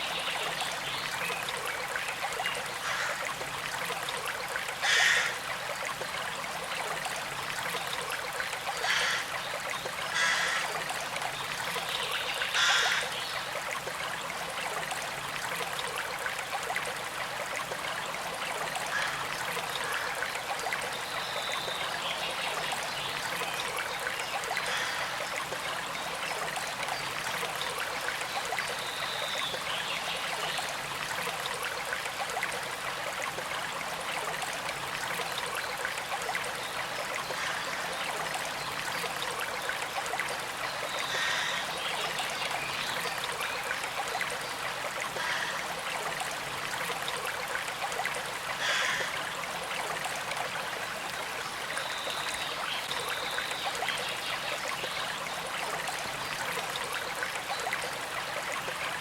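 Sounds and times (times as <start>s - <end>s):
creek trickling over stones: 0.0s - 59.0s.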